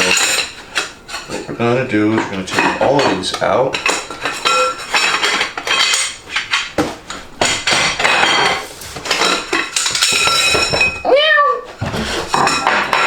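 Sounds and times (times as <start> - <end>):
metal bars clinking and knocking: 0.0 - 1.5, 2.1 - 11.1, 12.0 - 13.0.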